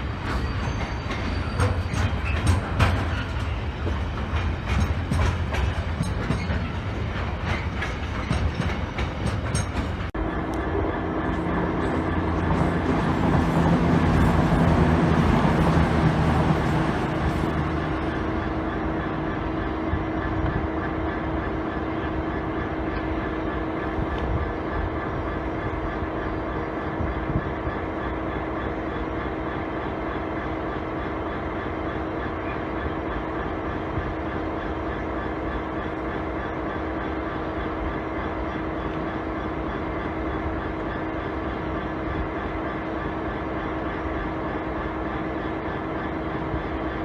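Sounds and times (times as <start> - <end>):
train running with steady hum: 0.0 - 47.0.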